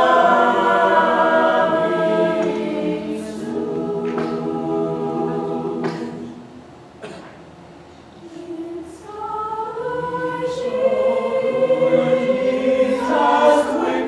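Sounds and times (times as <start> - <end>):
mixed choir singing: 0.0 - 6.4, 8.2 - 14.0.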